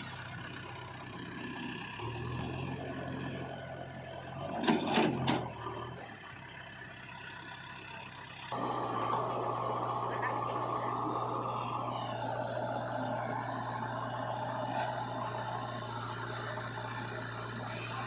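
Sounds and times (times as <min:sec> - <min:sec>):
heavy diesel machinery engine: 0:00.0 - 0:18.0.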